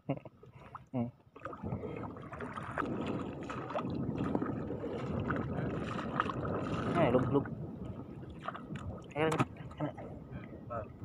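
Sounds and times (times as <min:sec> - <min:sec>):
water sloshing around wading legs: 0:00.4 - 0:10.5.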